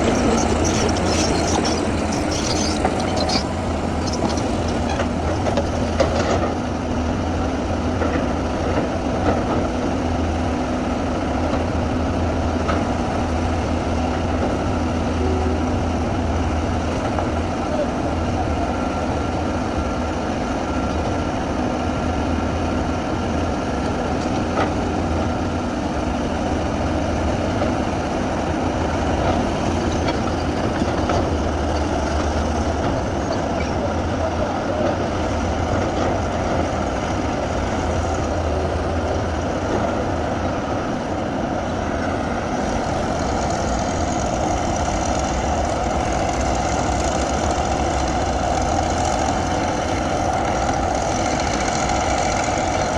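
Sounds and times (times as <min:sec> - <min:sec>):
bulldozer diesel engine rumbling: 0:00.0 - 0:52.9.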